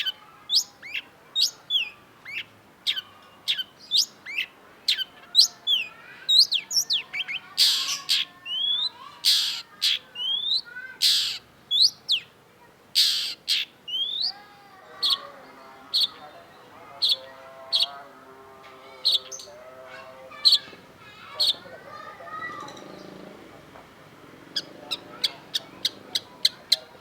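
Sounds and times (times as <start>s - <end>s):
harsh scratchy bird calls: 0.0s - 12.3s, 13.0s - 18.2s, 18.8s - 27.0s.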